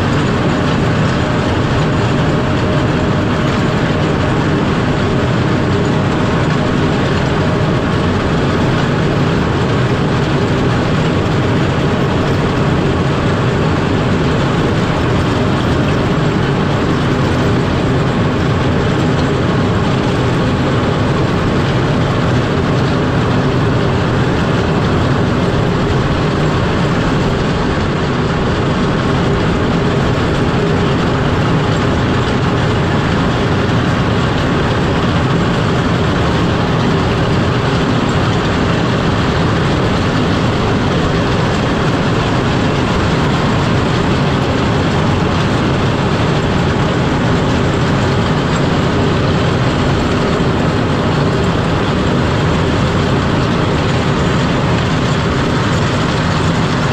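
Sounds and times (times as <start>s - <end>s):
grader engine running: 0.0s - 56.9s.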